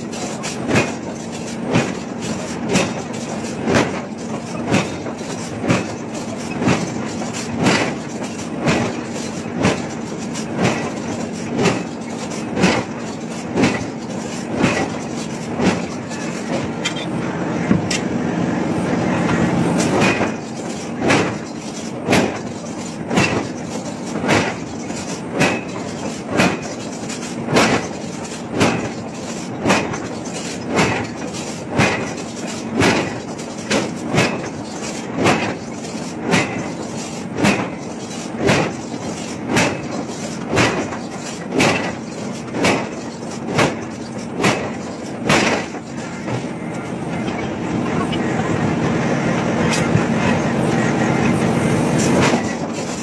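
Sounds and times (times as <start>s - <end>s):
forging machine striking steel: 0.0s - 18.1s, 19.1s - 48.3s, 49.6s - 53.0s
steady machine hum: 0.0s - 53.0s.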